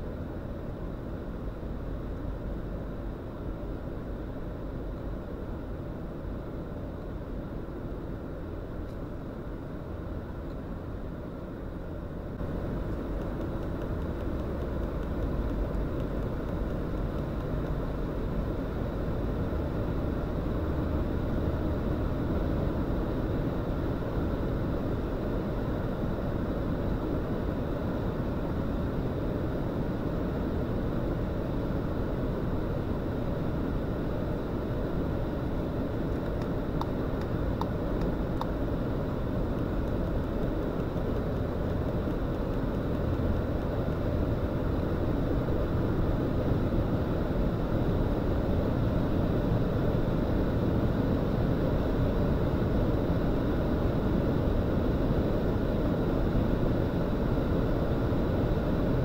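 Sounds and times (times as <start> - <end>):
car engine in cabin: 0.0 - 59.0.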